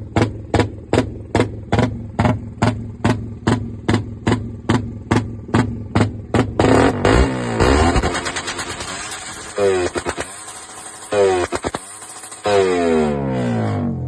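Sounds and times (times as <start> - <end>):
engine with open exhaust idling: 0.0 - 14.0.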